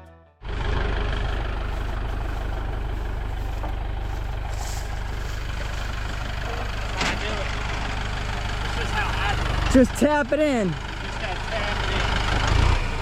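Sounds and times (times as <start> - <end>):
machine engine idling: 0.4 - 12.6.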